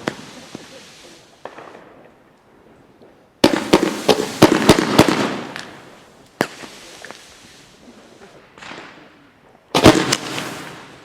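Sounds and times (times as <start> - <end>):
fireworks cracks and bangs: 0.0 - 2.1, 3.4 - 11.0.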